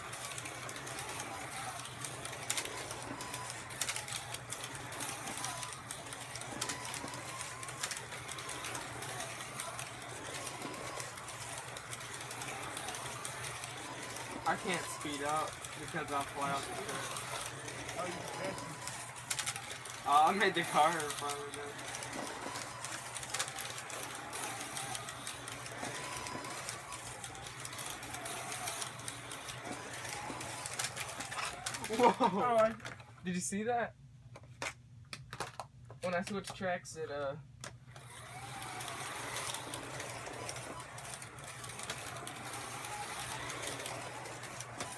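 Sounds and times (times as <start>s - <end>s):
slot car motors whining: 0.0s - 33.0s, 37.6s - 44.9s.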